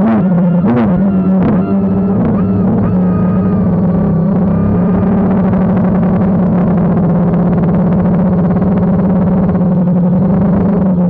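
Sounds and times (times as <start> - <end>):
drone motors buzzing: 0.0 - 11.0.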